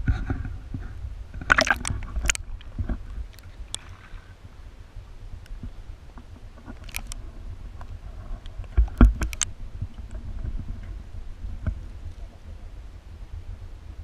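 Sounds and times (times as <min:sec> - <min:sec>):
muffled underwater rumble: 0:00.0 - 0:14.0.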